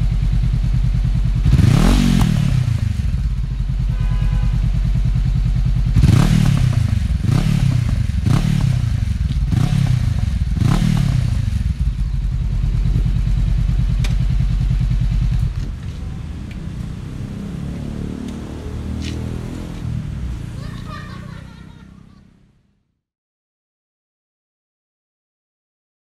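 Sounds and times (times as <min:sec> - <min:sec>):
motorcycle engine idling and revving: 0:00.0 - 0:22.5.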